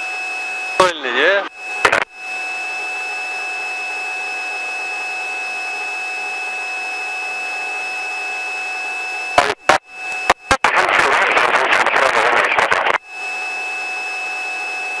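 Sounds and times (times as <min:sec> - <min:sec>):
helicopter cabin hiss and whine: 0:00.8 - 0:14.3.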